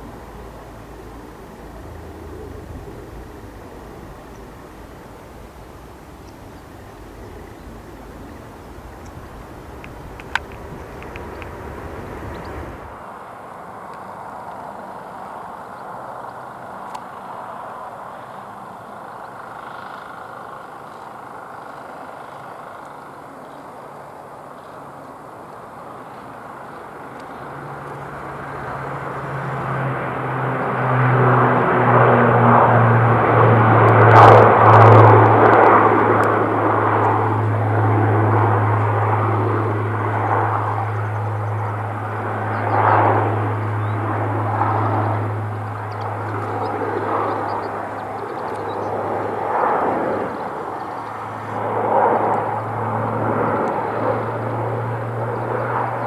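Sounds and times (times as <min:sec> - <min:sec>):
jet airliner landing: 0:00.0 - 0:56.0.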